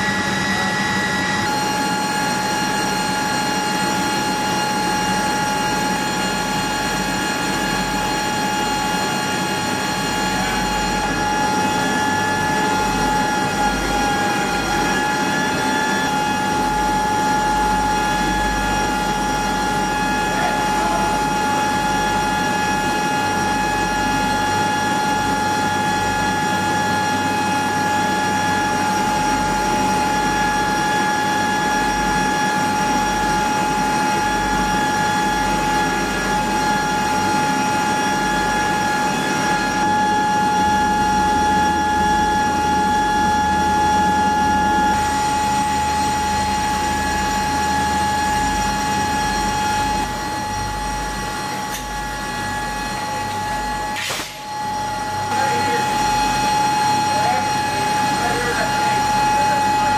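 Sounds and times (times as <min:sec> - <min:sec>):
aircraft turbine whine: 0:00.0 - 0:59.9.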